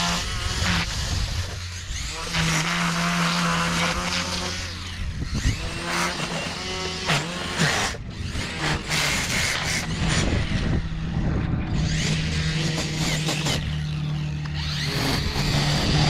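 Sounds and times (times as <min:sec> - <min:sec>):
string trimmer whining: 0:00.0 - 0:16.0
trimmer line cutting grass: 0:00.0 - 0:16.0.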